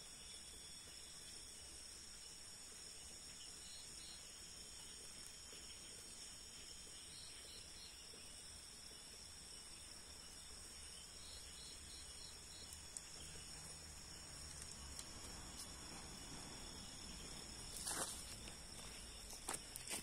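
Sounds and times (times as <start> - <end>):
night insects chirring: 0.0 - 20.0.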